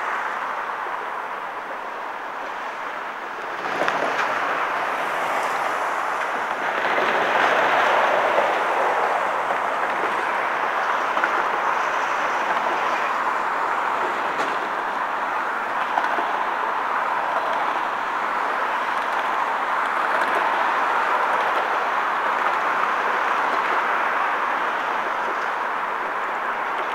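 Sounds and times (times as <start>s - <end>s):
road traffic rushing past: 0.0s - 26.9s.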